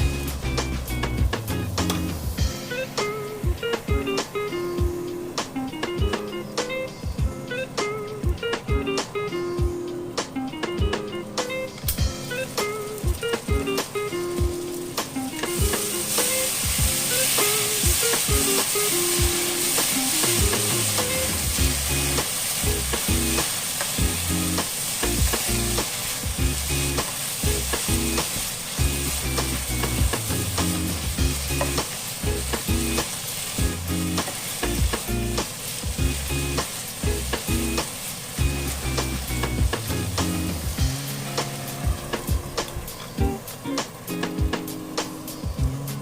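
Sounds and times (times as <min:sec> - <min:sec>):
meat sizzling in hot oil: 0:00.0 - 0:07.6, 0:11.8 - 0:46.0.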